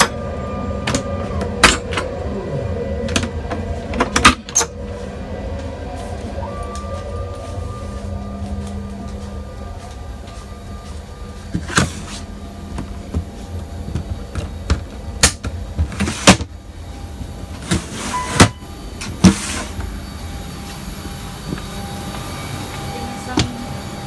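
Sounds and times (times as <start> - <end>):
cabin air system hum: 0.0 - 24.0.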